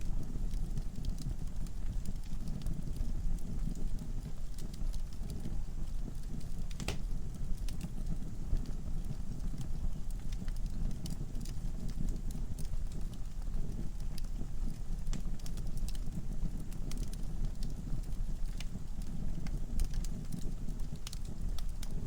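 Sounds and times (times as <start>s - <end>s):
logs crackling and popping: 0.0s - 22.0s.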